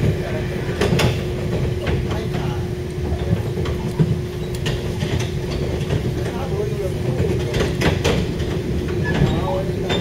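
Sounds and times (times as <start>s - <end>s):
train rumble and hum: 0.0s - 10.0s.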